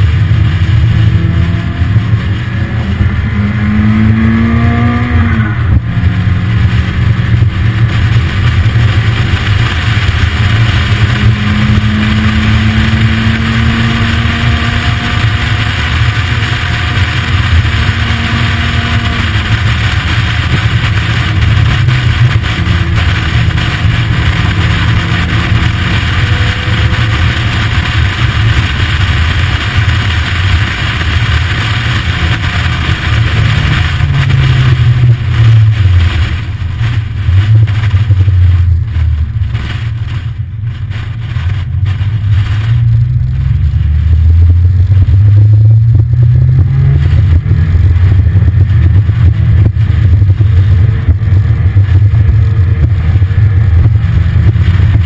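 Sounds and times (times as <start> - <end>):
car engine pulling uphill: 0.0 - 55.0
wind and road noise: 0.0 - 55.0.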